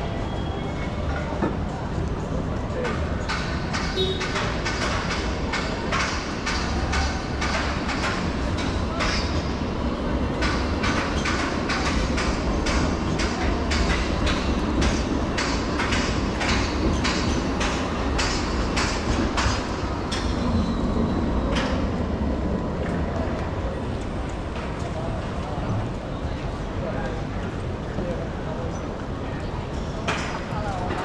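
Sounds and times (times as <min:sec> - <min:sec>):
city street rumble: 0:00.0 - 0:31.0.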